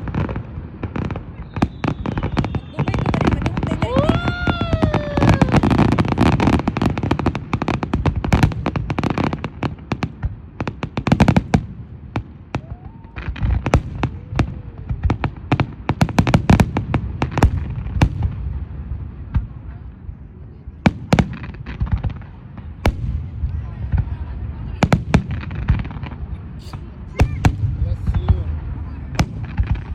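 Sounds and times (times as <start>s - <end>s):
fireworks bangs and crackling: 0.0s - 29.9s.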